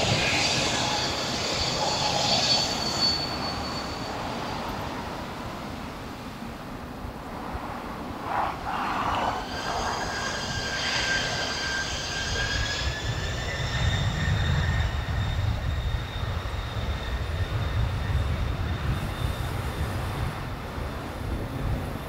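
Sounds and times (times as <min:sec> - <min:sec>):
jet engines whining: 0:00.0 - 0:05.3, 0:08.1 - 0:20.6.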